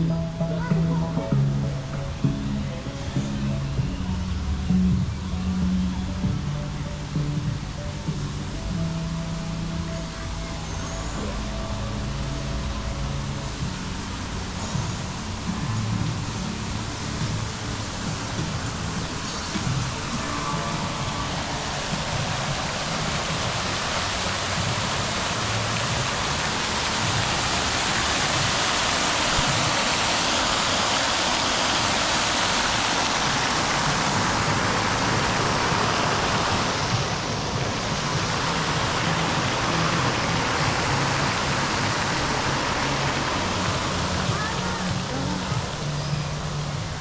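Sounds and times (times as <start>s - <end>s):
running water rushing: 0.0s - 47.0s.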